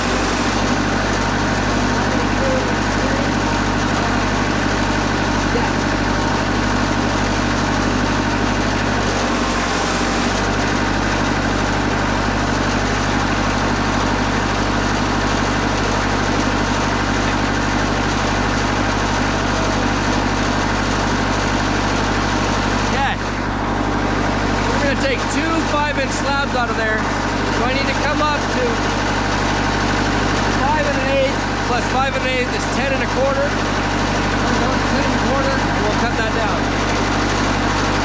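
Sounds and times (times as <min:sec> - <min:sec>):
bandsaw mill engine droning: 0:00.0 - 0:38.0.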